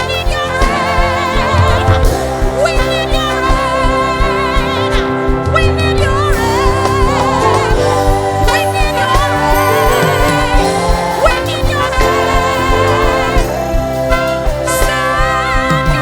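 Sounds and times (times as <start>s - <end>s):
band holding sustained chords: 0.0s - 16.0s
person singing long notes: 0.0s - 16.0s
steady low beat: 0.0s - 16.0s.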